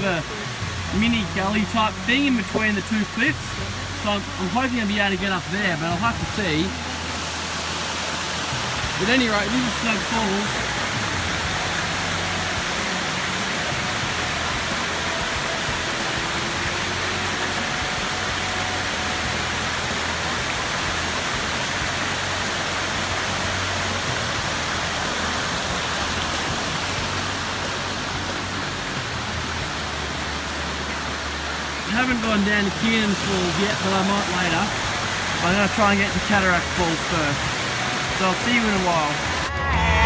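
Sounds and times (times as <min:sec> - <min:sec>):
waterfall rushing into rocky pool: 0:00.0 - 0:40.0.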